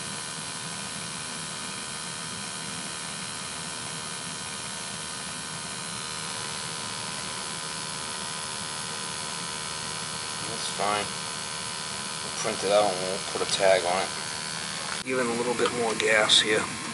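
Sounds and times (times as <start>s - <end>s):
gas boiler burner humming: 0.0s - 16.9s.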